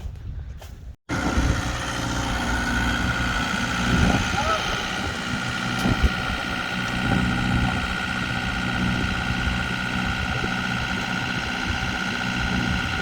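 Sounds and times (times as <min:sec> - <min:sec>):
heavy machine engine whining: 0:01.1 - 0:13.0.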